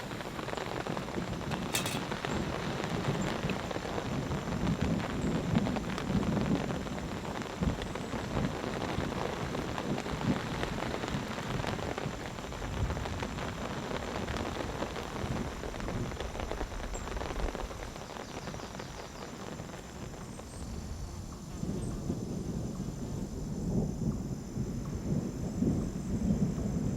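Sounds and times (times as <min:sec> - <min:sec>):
heavy rain pattering: 0:00.0 - 0:26.9.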